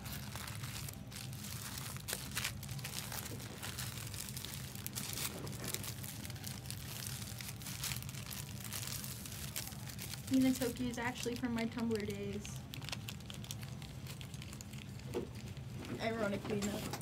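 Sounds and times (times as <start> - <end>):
card wrappers crinkling: 0.0 - 17.0
steady low hum: 0.0 - 17.0.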